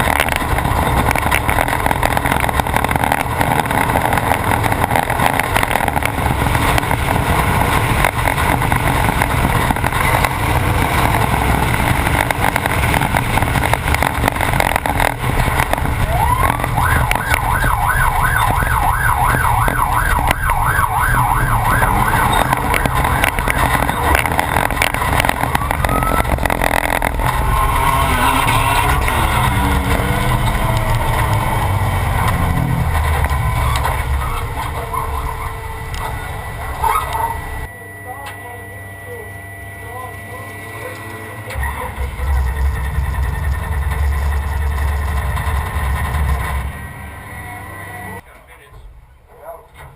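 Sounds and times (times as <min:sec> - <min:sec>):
race truck engine running hard: 0:00.0 - 0:37.7, 0:39.2 - 0:48.2
warbling siren: 0:00.0 - 0:48.2.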